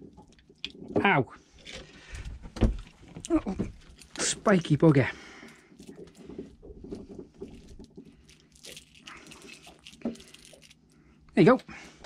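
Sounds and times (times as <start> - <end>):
fish being unhooked rustling: 1.6 - 11.3.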